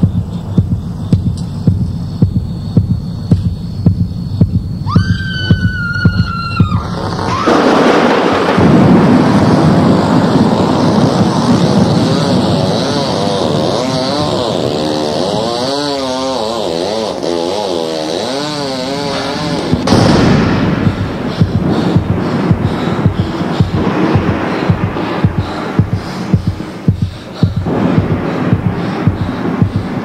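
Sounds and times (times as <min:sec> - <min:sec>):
rushing rumbling noise: 0:00.0 - 0:15.5, 0:18.9 - 0:30.0.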